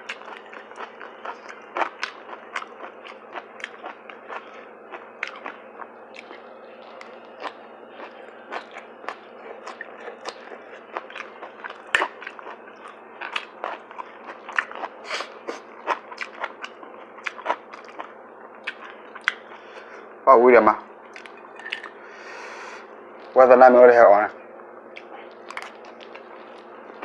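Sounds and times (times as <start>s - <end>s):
person chewing crunchy food: 0.0s - 20.0s, 21.0s - 22.1s, 24.9s - 27.0s.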